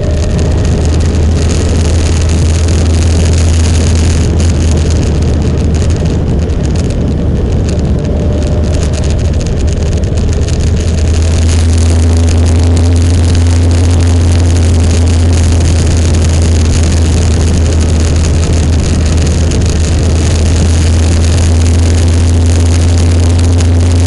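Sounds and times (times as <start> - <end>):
motorcycle engine drone: 0.0 - 24.0
wind noise on microphone: 0.0 - 24.0.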